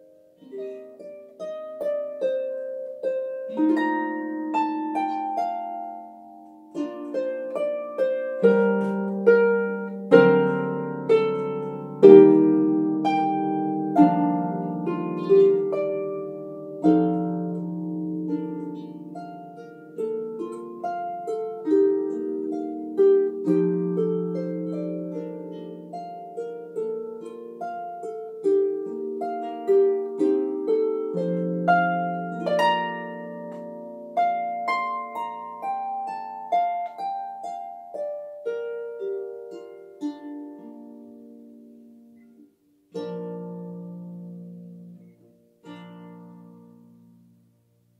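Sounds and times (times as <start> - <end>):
harp melody: 0.0 - 47.9.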